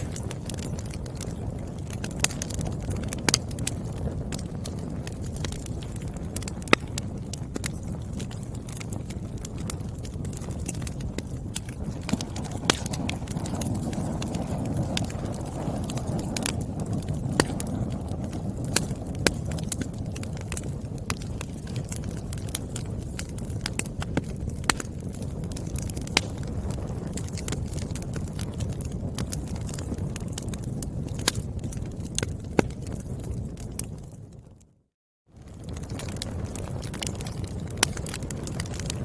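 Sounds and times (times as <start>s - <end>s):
firewood popping: 0.0s - 34.6s, 35.4s - 39.0s
wood fire crackling: 0.0s - 34.8s, 35.4s - 39.0s.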